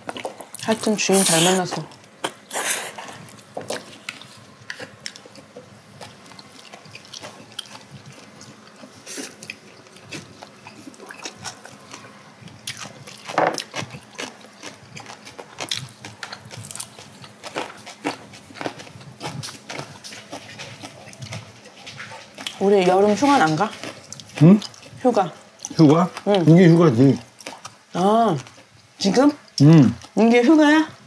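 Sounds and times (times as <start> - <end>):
people chewing: 0.0 - 31.0.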